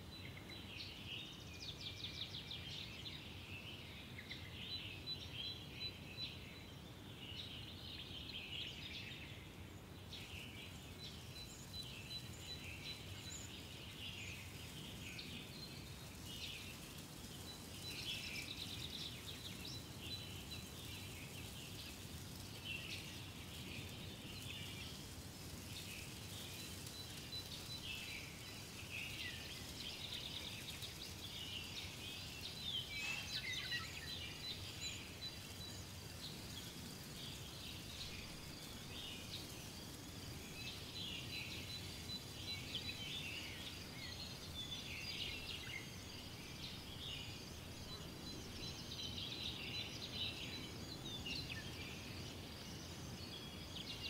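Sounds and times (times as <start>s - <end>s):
birds chirping and twittering: 0.0s - 54.0s
low background noise: 0.0s - 54.0s.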